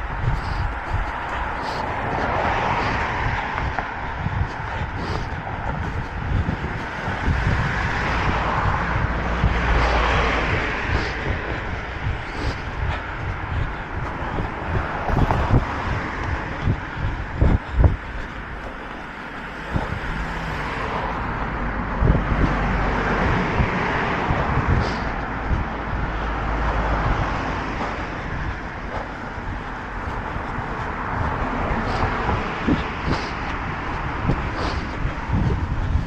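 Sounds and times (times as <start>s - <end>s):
road traffic passing: 0.0s - 36.0s
wind rumble on microphone: 0.0s - 36.0s.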